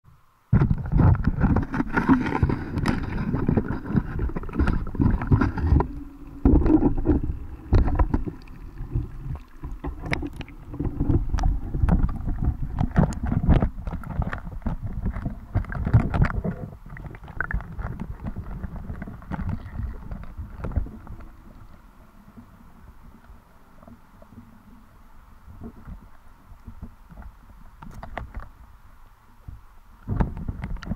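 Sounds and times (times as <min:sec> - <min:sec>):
muffled underwater rumble: 0:00.2 - 0:30.9.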